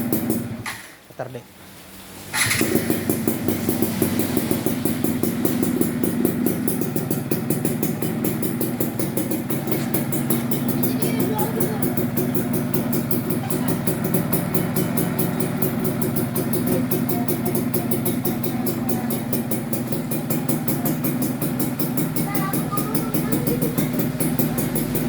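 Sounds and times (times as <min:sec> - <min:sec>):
two-stroke engine idling: 0:00.0 - 0:00.8, 0:02.3 - 0:25.0
fast even ticking: 0:02.4 - 0:25.0.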